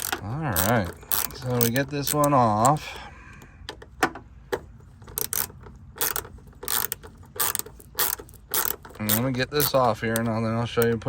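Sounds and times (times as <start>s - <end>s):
ratchet wrench clicking: 0.0s - 3.0s, 5.0s - 11.0s.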